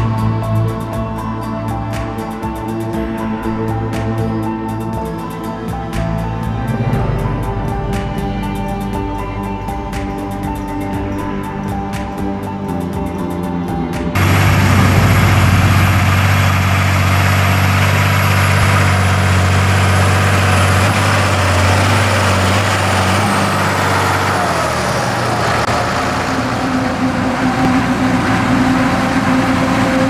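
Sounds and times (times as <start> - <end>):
background music: 0.0 - 30.0
diesel farm machinery running: 0.0 - 30.0.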